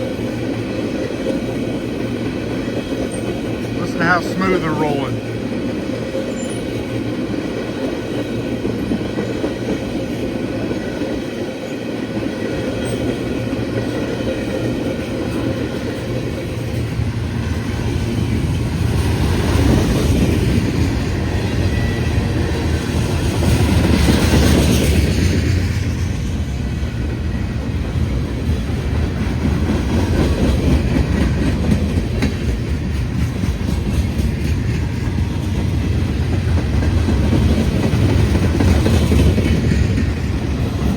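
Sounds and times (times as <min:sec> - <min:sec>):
freight train cars rolling: 0:00.0 - 0:40.9.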